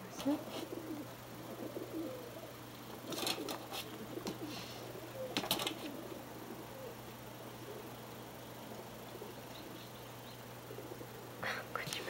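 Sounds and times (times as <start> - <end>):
pigeons cooing: 0.1 - 11.9.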